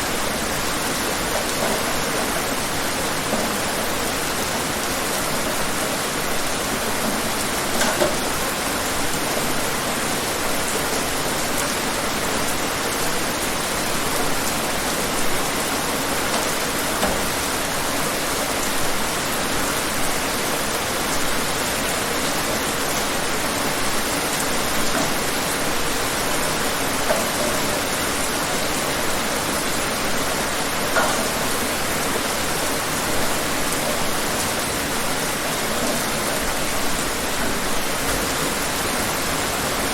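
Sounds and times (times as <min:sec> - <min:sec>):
louder raindrops: 0:00.0 - 0:39.9
rain pattering: 0:00.0 - 0:39.9.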